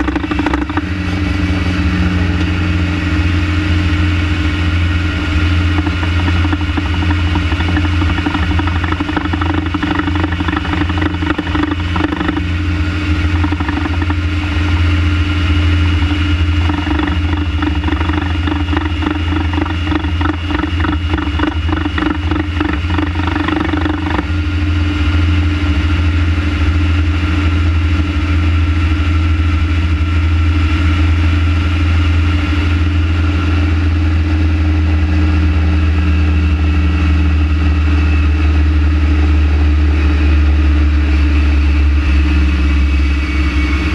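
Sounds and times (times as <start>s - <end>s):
rapid rhythmic engine pulsing: 0.0s - 43.9s
van engine droning: 0.0s - 43.9s.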